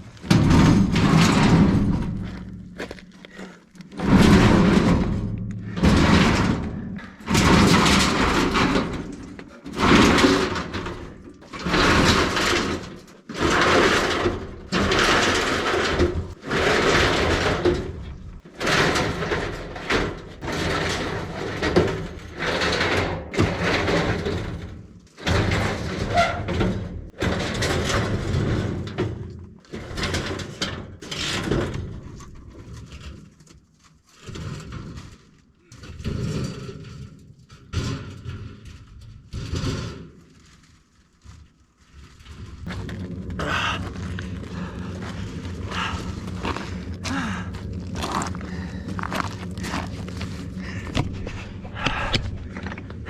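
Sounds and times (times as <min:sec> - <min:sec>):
sheet metal scraping and sliding: 0:00.0 - 0:33.3, 0:34.0 - 0:53.0.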